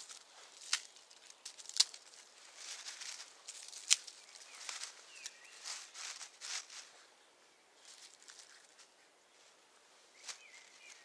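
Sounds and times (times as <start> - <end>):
hands rustling dry leaves: 0.0 - 7.1, 7.7 - 11.0.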